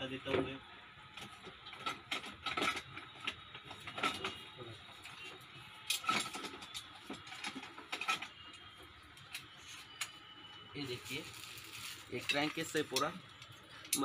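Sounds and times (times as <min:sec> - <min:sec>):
parts and packaging rustling: 0:01.2 - 0:14.0.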